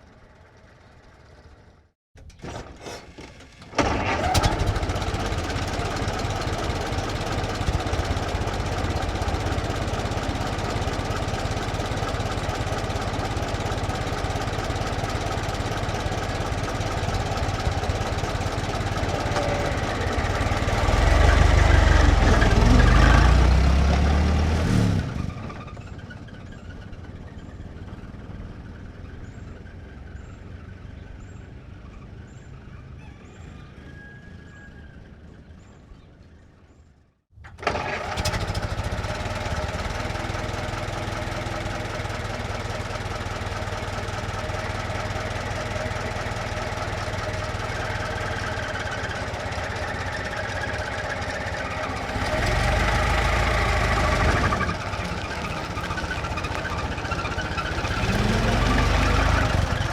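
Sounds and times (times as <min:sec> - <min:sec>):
old car engine idling and revving: 0:00.0 - 0:01.9, 0:03.3 - 0:35.8, 0:37.5 - 0:59.9.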